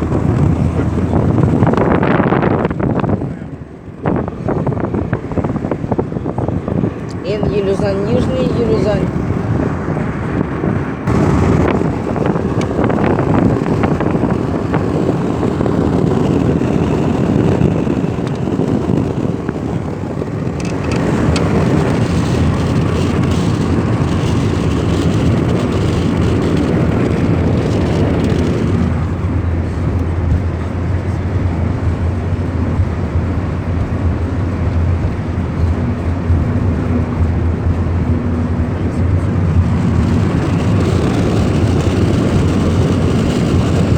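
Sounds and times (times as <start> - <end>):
car engine: 0.0 - 43.9
road noise: 0.0 - 43.9.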